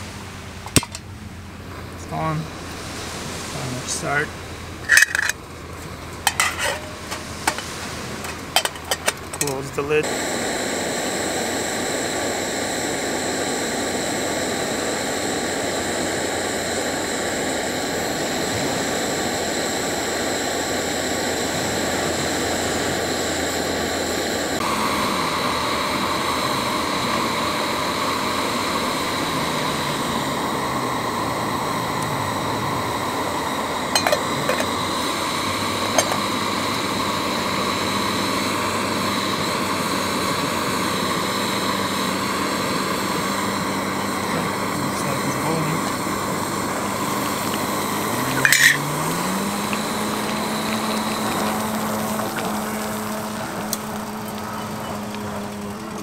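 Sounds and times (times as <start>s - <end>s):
gas stove hissing roar: 0.0s - 56.0s.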